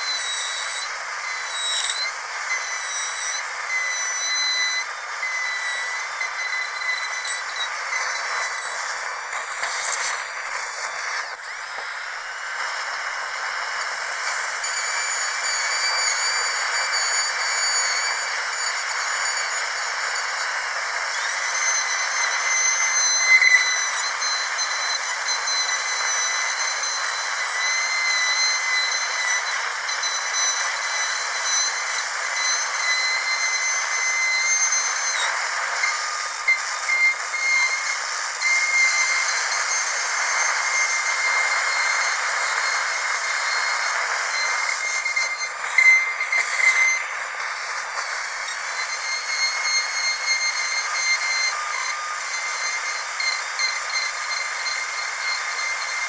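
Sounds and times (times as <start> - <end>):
dentist's drill whine: 0.0 - 56.0.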